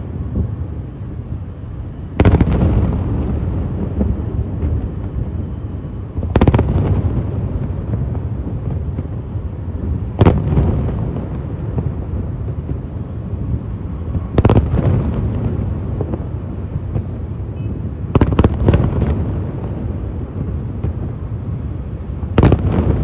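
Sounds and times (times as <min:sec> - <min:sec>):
distant fireworks rumble: 0:00.0 - 0:23.0
fireworks bangs with echo: 0:00.0 - 0:23.0.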